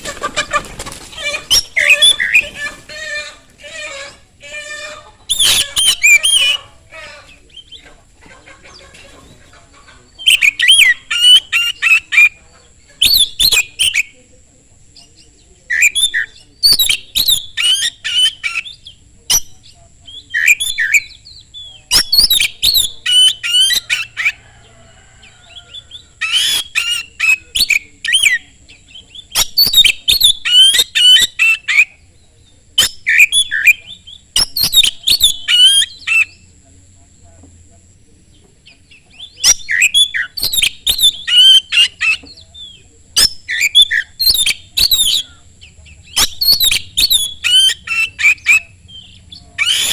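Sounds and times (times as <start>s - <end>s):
songbird singing whistles and chirps: 1.2s - 2.7s, 5.2s - 7.9s, 10.1s - 14.2s, 14.9s - 36.6s, 38.3s - 49.9s.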